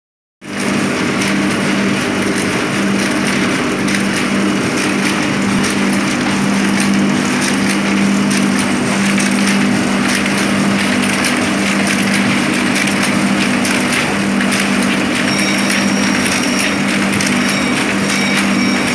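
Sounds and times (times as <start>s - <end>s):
sewing machine motor hum: 0.5s - 18.9s.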